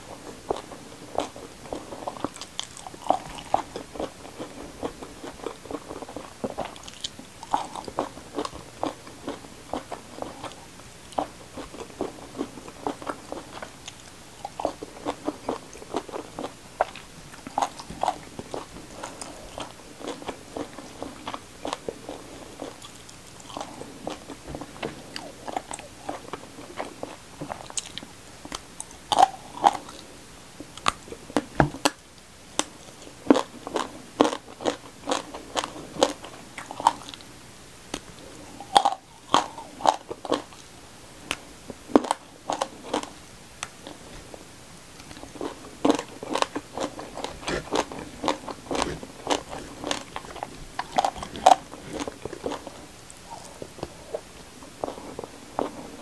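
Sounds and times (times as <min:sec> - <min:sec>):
chewing crunchy food: 0:00.0 - 0:32.0, 0:32.6 - 0:37.3, 0:37.9 - 0:40.7, 0:41.3 - 0:56.0.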